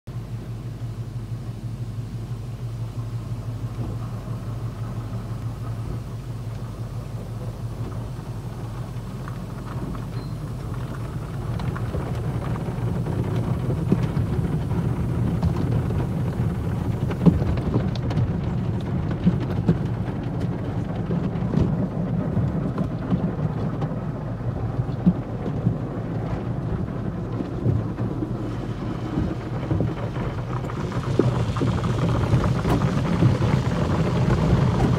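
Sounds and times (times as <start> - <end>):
low hum: 0.1 - 34.9
water spraying on car: 0.1 - 34.9.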